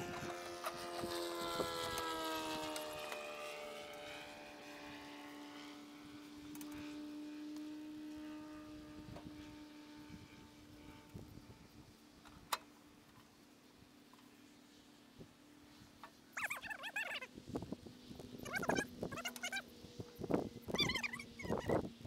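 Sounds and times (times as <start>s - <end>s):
passing engine drone: 0.0s - 22.0s.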